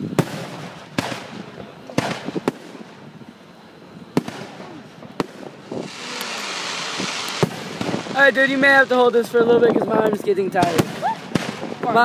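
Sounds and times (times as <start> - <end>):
firework shells booming: 0.0 - 3.3, 4.0 - 12.0.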